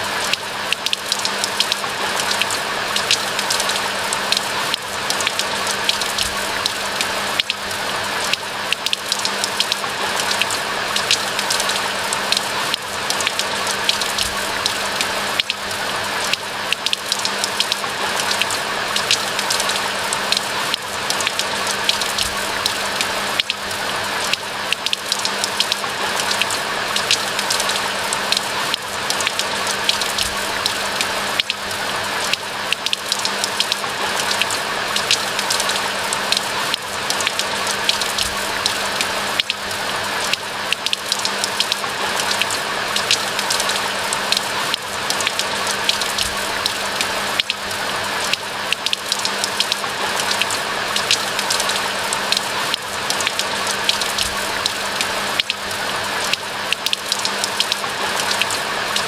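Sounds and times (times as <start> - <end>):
rain falling in a forest: 0.0 - 59.0.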